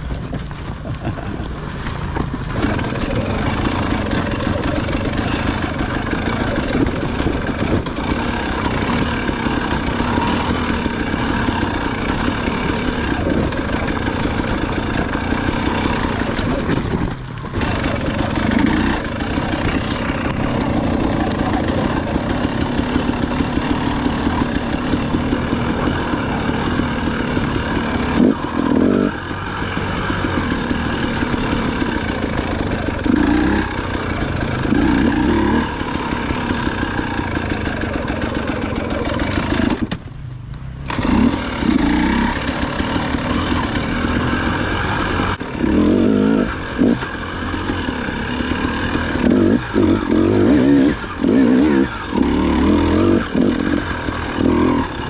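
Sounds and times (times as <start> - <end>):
dirt bike engine revving: 0.9 - 40.0, 40.8 - 55.0.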